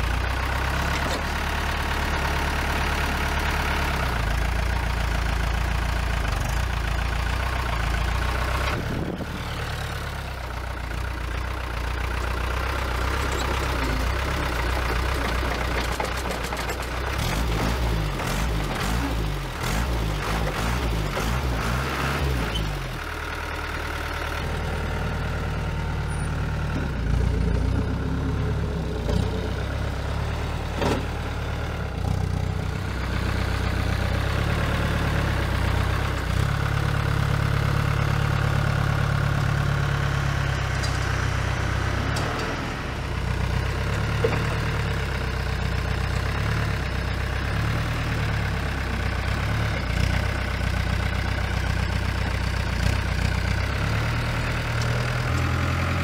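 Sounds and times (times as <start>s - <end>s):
diesel forklift engine running: 0.0s - 56.0s.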